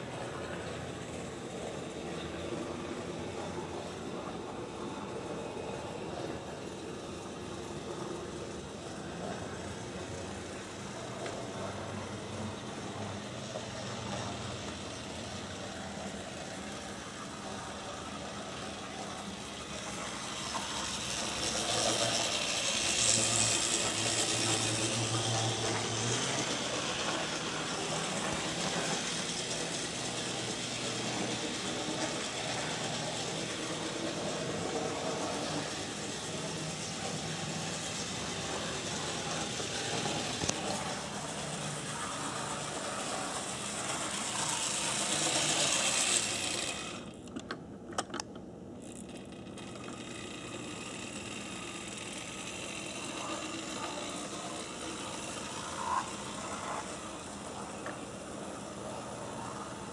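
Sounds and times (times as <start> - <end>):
model train motor whirring: 0.0 - 59.9.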